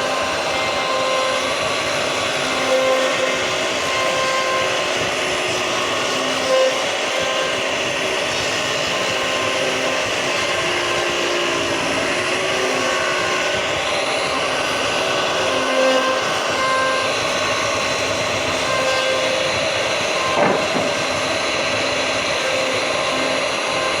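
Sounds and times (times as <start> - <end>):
router machining wood: 0.0 - 24.0
short whining tones: 0.0 - 24.0.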